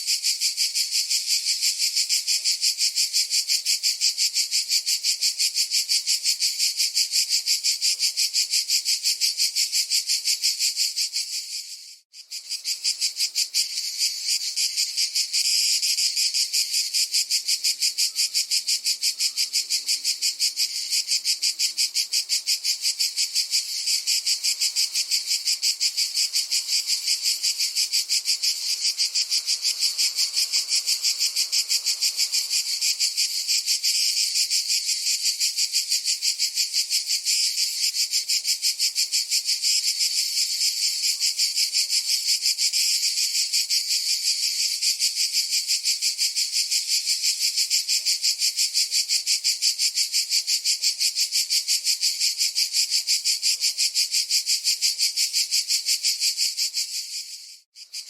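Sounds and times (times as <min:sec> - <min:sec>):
cicada buzzing: 0:00.0 - 0:58.0.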